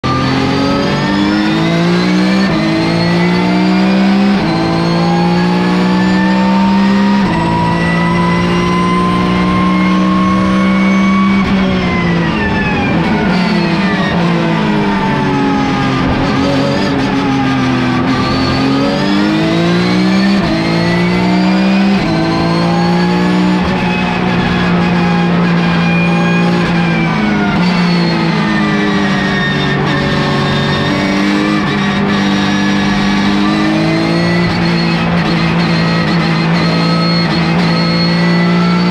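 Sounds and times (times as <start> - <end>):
race car engine at full throttle: 0.0 - 38.9.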